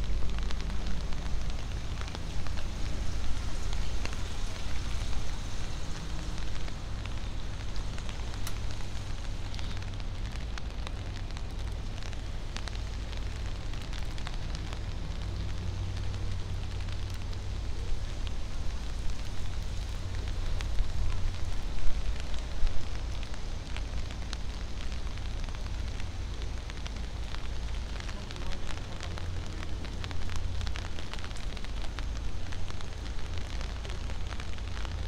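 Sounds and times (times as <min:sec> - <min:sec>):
low constant rumble: 0:00.0 - 0:35.0
rain pattering and dripping: 0:00.0 - 0:35.0.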